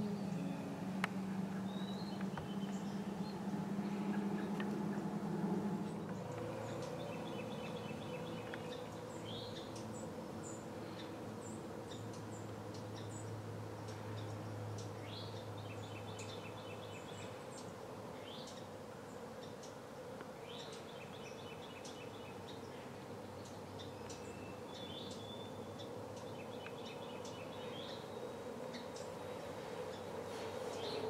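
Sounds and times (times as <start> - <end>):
songbird singing: 0.0 - 31.0
steady low hum: 0.0 - 31.0.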